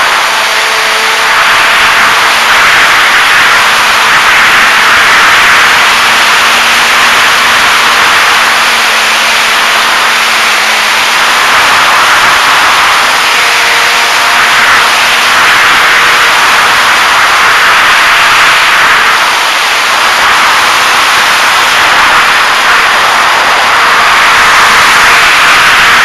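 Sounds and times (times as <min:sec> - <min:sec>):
air rush and propeller noise: 0:00.0 - 0:26.0.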